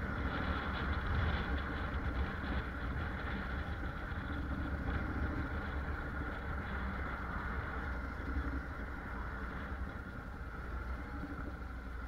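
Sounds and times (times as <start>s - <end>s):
motorcycle engine rumbling: 0.0s - 12.0s
road and wind noise: 0.0s - 12.0s.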